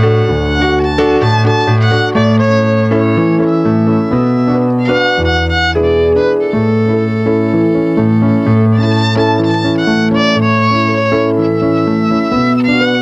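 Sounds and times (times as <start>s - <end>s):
low bass line: 0.0s - 13.0s
violin melody: 0.0s - 13.0s.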